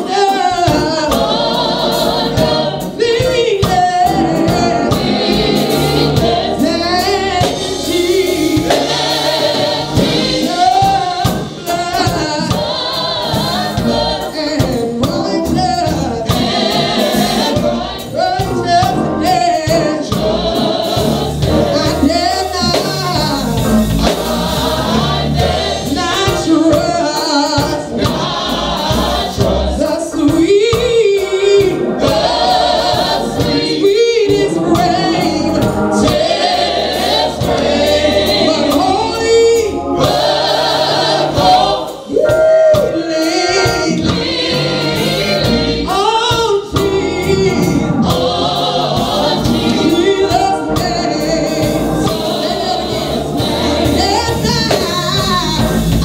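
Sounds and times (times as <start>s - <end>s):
band accompaniment: 0.0s - 56.0s
choir singing gospel: 0.0s - 56.0s.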